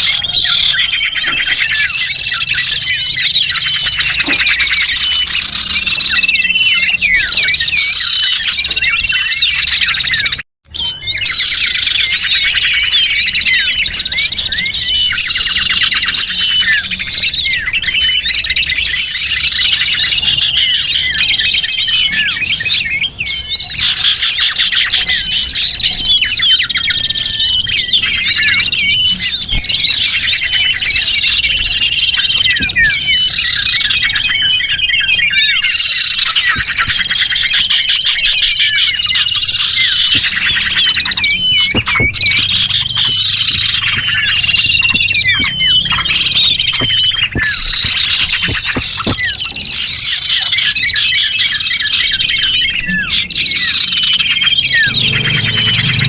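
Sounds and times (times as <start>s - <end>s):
small birds chirping and trilling: 0.0s - 56.0s.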